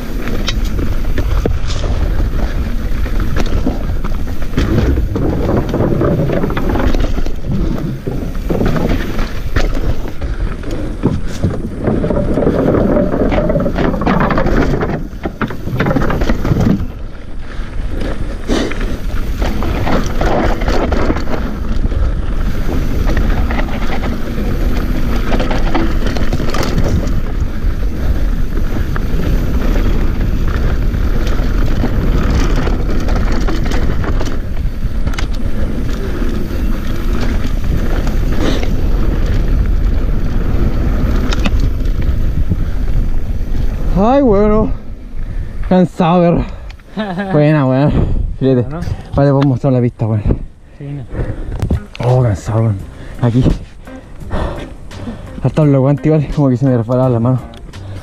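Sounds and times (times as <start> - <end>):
wind rush on microphone: 0.0 - 55.5
bike rattling over bumps: 0.0 - 58.0
tyre rumble on dirt trail: 0.0 - 58.0.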